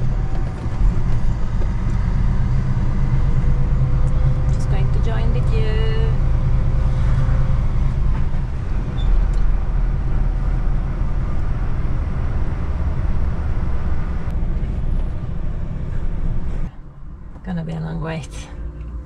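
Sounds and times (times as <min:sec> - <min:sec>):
diesel lorry engine running: 0:00.0 - 0:19.0.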